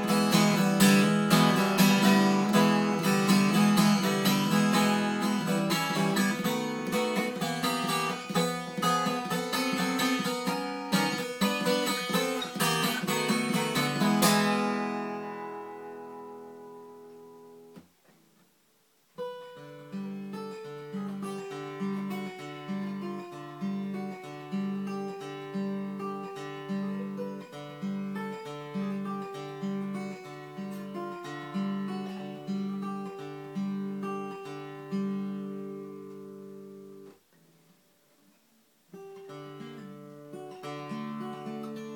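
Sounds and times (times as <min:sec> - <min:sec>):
acoustic guitar fingerpicking: 0:00.0 - 0:18.5, 0:19.2 - 0:41.9.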